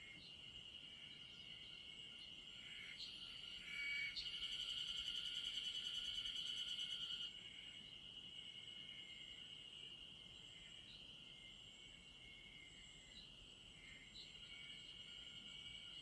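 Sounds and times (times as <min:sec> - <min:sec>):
close insect fast-pulsing trill: 0:00.0 - 0:16.0
insects trilling: 0:00.0 - 0:16.0.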